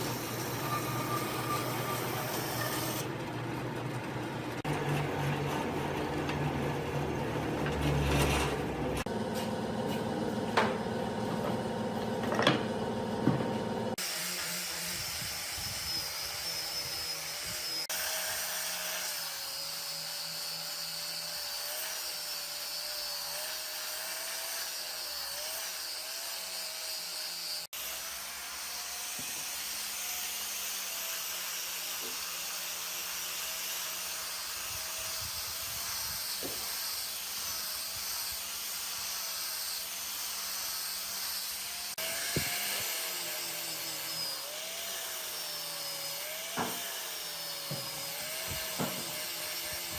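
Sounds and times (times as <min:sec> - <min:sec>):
electric power tool whining: 0:00.0 - 0:03.2, 0:04.6 - 0:49.9.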